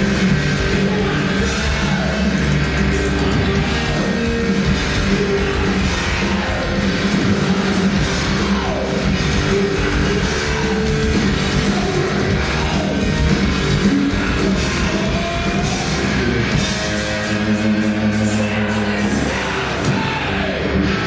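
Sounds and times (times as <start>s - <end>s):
distorted electric guitars: 0.0s - 21.0s
pounding drum kit: 0.0s - 21.0s.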